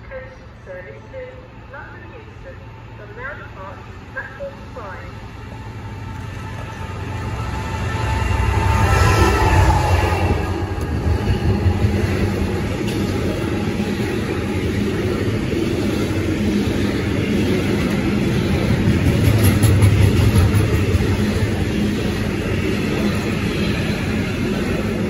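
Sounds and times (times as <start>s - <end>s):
train wheels rumbling on rails: 4.5s - 25.0s.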